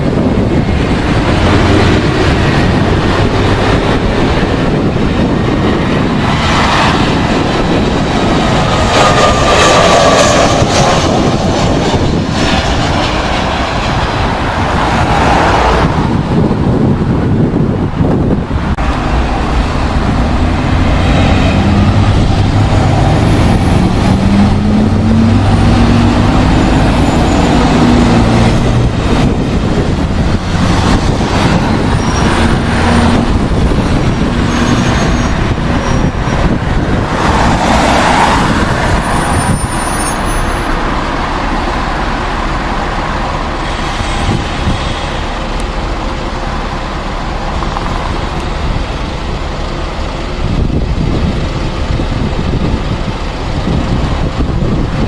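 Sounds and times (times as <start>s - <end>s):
jet airliner passing: 0.0s - 55.0s.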